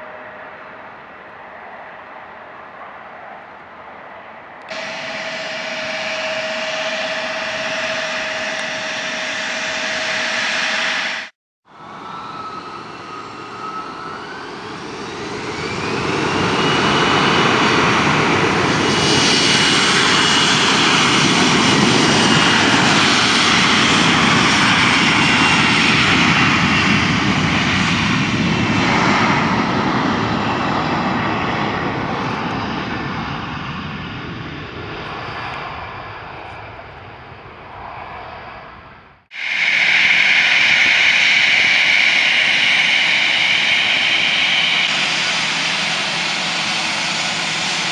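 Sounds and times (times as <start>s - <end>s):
close jet engine whine: 0.0s - 47.9s
jet airliner engines: 0.0s - 47.9s.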